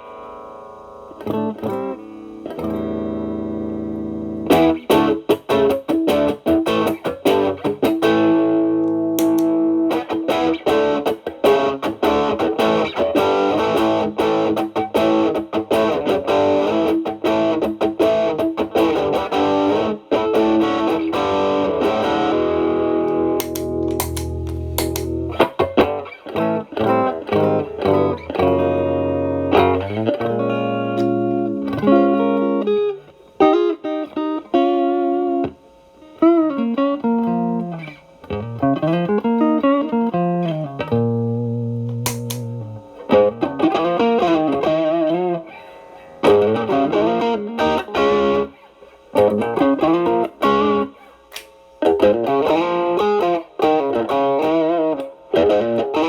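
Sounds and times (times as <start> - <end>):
overdriven electric guitar blues: 0.0 - 56.0.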